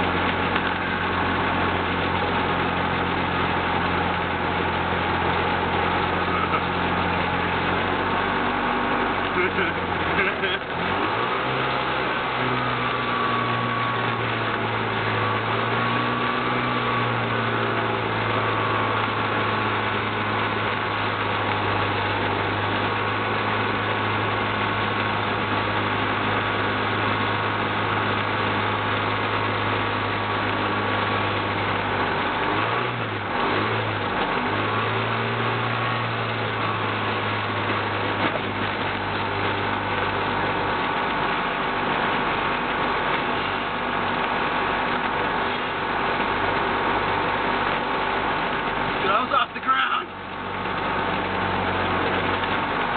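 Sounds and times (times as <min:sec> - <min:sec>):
light aircraft engine running: 0:00.0 - 0:52.9.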